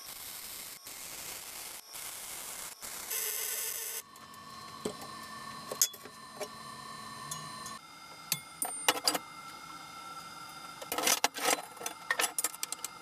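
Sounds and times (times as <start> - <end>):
welding arc crackling and hissing: 0.0 - 13.0.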